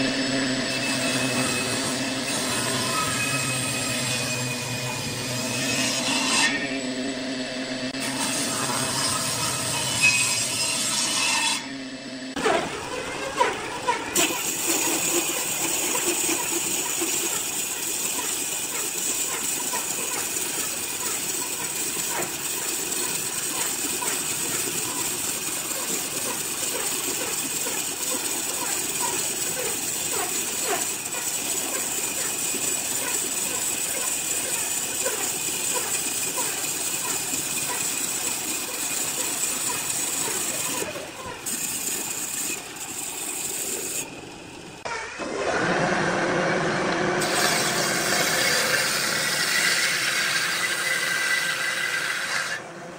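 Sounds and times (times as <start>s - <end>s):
wood lathe cutting wood: 0.0s - 52.9s.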